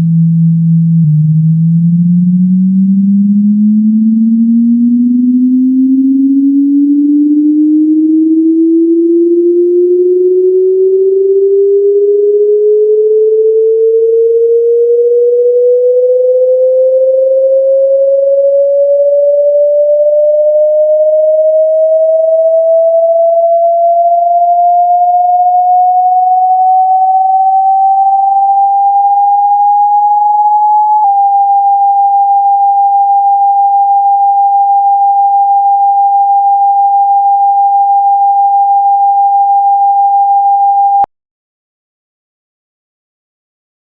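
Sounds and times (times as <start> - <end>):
sine tone sliding upward: 0.0 - 41.1
steady high sine tone: 0.0 - 41.1.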